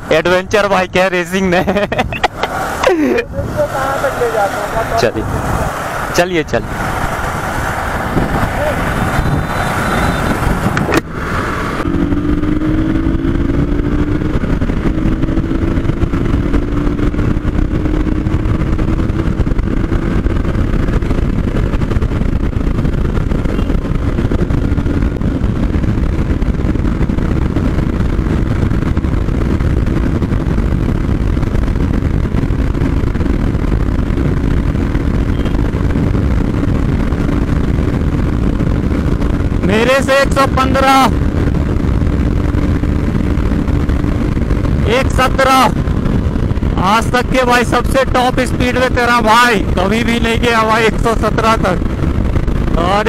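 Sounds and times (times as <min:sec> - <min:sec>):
motorcycle engine at high throttle: 0:00.0 - 0:53.0
wind rush on microphone: 0:00.0 - 0:53.0.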